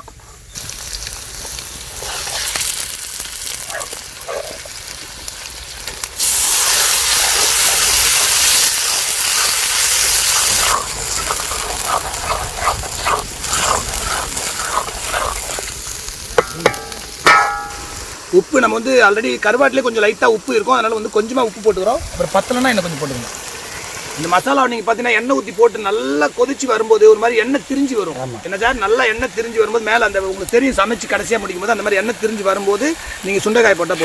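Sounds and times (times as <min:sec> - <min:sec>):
shallots sizzling in oil: 0:00.1 - 0:34.0
paste sizzling loudly in oil: 0:00.5 - 0:34.0.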